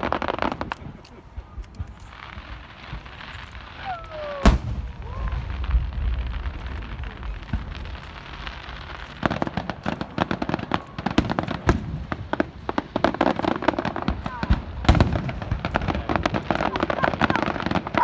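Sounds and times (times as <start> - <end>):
fireworks rumbling and crackling: 0.0 - 18.0.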